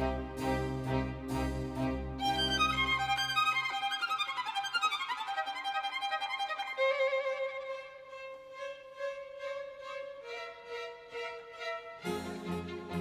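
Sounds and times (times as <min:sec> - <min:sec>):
violin music: 0:00.0 - 0:13.0.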